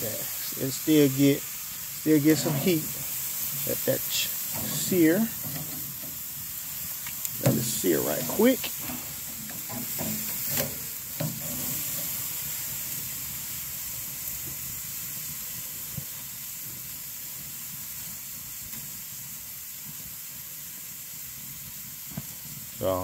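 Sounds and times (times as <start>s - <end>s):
steaks sizzling on a grill: 0.0s - 23.0s.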